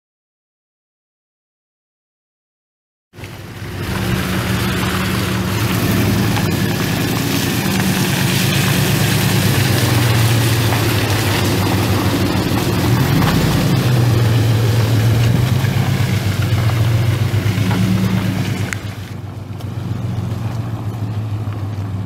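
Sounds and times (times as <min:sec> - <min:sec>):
truck engine idling: 0:03.2 - 0:22.0.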